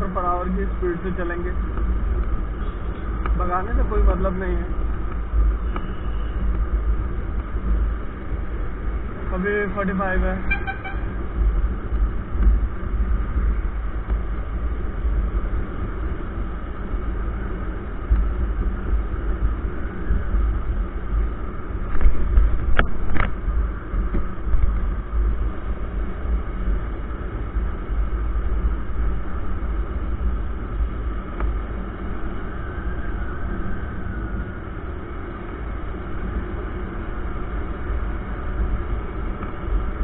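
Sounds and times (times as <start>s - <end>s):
low wind rumble on microphone: 0.0s - 40.0s.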